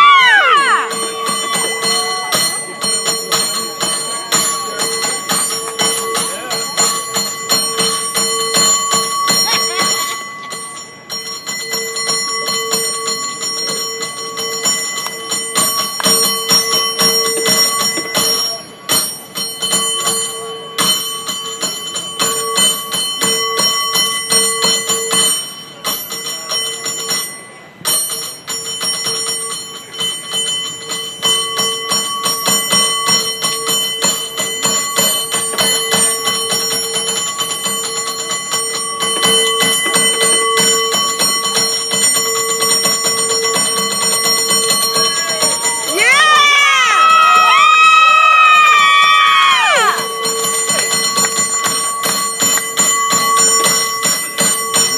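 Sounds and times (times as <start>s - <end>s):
cable car bell ringing: 0.0s - 54.9s.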